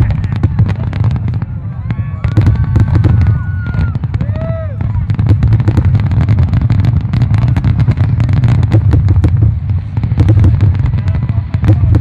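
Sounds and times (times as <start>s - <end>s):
continuous low rumble: 0.0s - 12.0s
fireworks cracking and popping: 0.0s - 12.0s.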